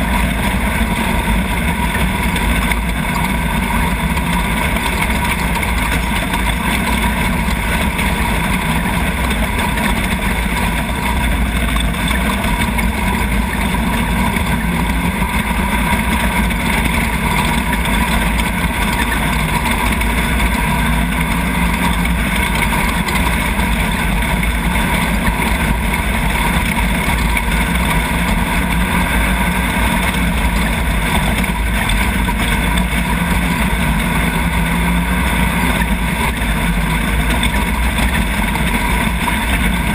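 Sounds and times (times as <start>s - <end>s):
buggy engine running loudly: 0.0s - 39.9s.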